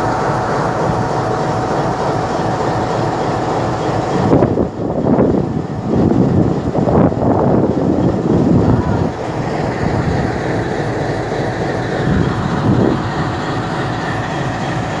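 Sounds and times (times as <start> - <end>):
diesel locomotive: 0.0 - 15.0
train wheels rumbling and clattering: 0.0 - 15.0.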